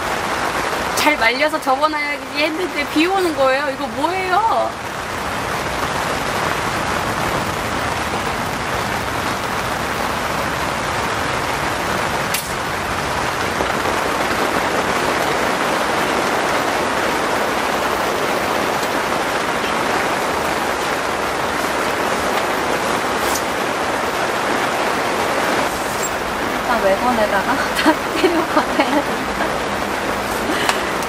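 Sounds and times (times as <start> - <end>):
rain pattering on a tent: 0.0 - 31.0.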